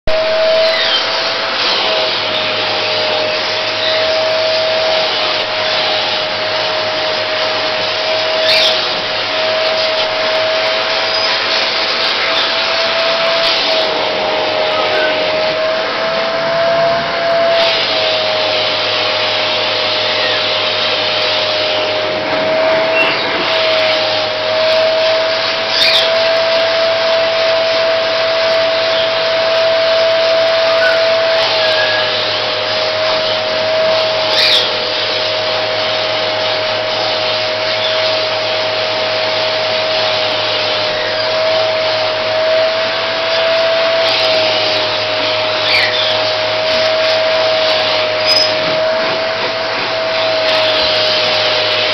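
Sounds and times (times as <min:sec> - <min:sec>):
vacuum cleaner whine: 0:00.0 - 0:51.9.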